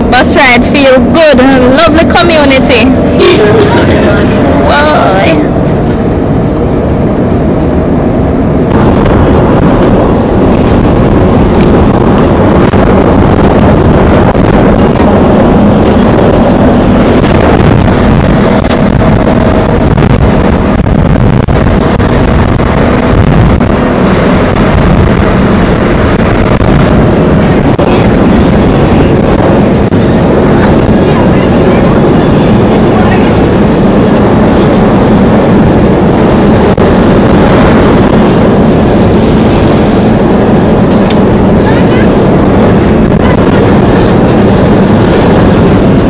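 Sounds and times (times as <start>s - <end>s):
van engine and road noise: 0.0s - 46.0s
wind rushing through window: 0.0s - 46.0s.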